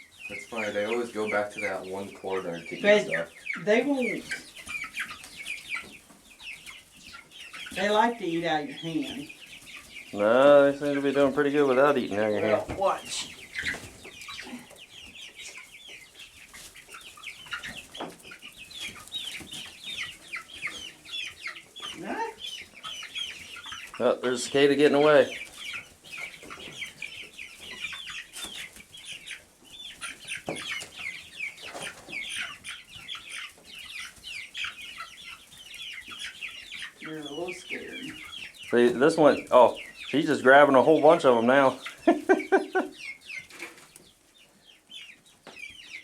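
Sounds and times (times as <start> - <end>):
chicks peeping and clucking: 0.0 - 46.0.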